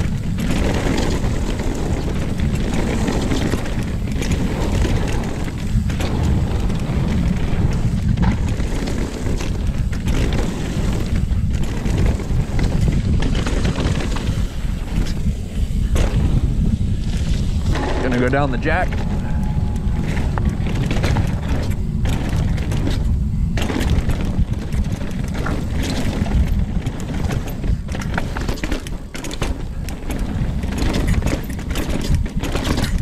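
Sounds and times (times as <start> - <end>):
tyre and trail noise: 0.0 - 33.0
wind buffeting microphone: 0.0 - 33.0.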